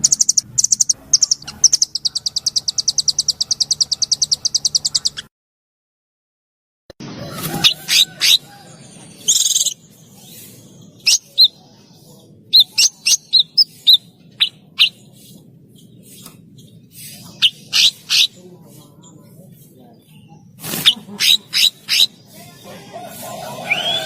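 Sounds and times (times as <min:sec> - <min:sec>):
buzzy bird trill: 0:00.0 - 0:05.3, 0:07.2 - 0:18.5, 0:20.1 - 0:24.0
songbird chirping: 0:00.0 - 0:05.3, 0:07.0 - 0:24.0.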